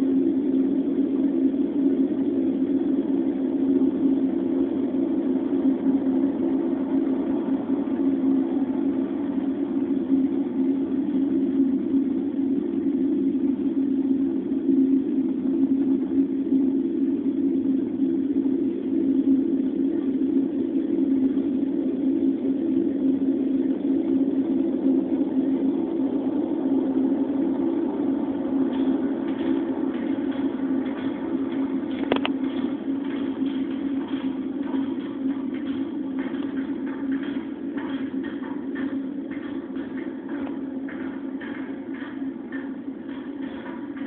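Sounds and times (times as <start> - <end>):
low droning hum: 0.0 - 44.0.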